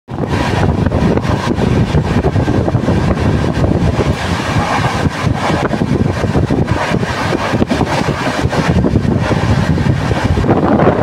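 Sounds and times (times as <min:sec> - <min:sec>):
train wheels rumbling on rails: 0:00.1 - 0:11.0
wind buffeting microphone: 0:00.1 - 0:11.0.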